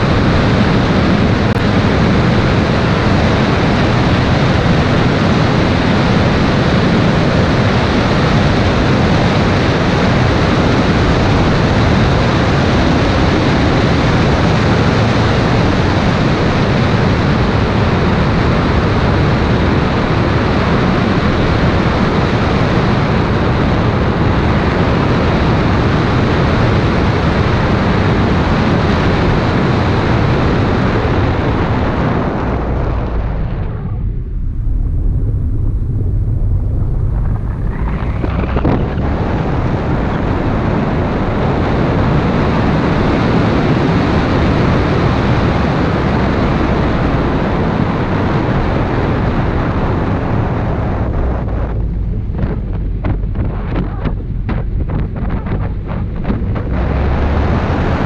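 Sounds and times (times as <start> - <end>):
low rumble of car and road: 0.0 - 58.0
wind buffeting microphone: 0.0 - 58.0.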